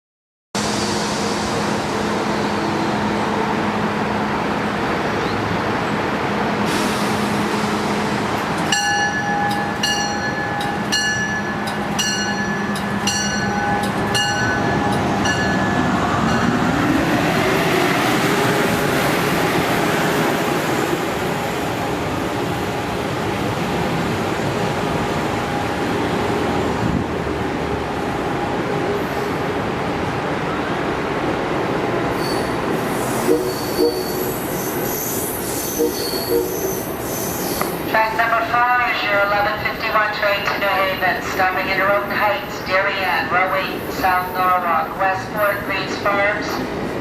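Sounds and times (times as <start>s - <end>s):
train running noise: 0.6s - 47.0s.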